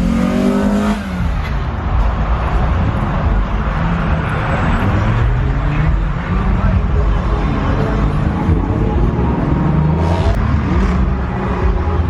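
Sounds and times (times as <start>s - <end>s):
background music: 0.0s - 12.0s
car engine rumbling: 0.0s - 12.0s.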